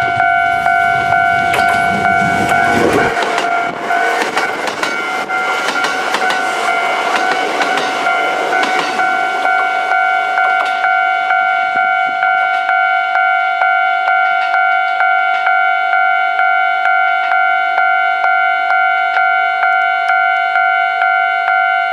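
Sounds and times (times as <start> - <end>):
electronic level-crossing bell: 0.0 - 21.9.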